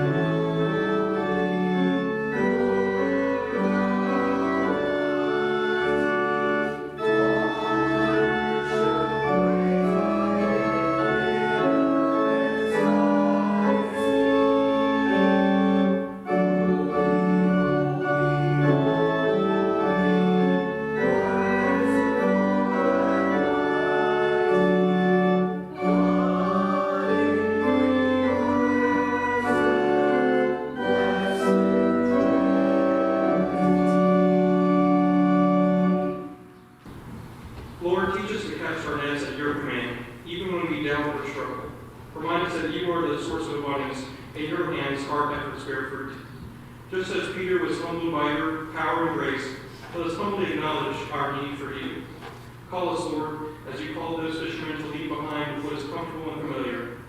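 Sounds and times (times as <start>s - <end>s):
organ playing sustained chords: 0.0s - 57.0s.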